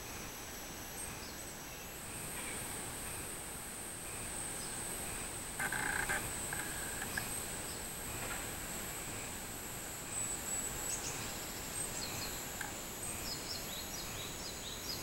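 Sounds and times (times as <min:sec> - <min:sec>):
cicadas droning: 0:00.0 - 0:15.0
harsh cicada calls: 0:01.2 - 0:15.0.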